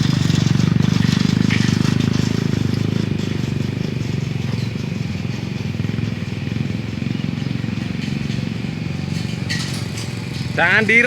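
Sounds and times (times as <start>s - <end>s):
hand tractor engine running: 0.0s - 11.0s.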